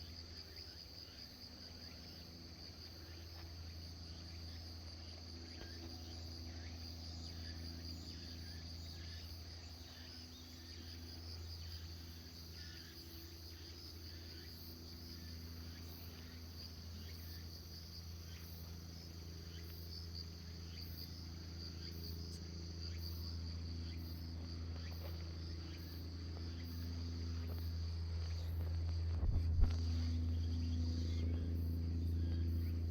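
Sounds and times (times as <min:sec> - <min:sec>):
constant low hum: 0:00.0 - 0:32.9
insects trilling: 0:00.0 - 0:32.9.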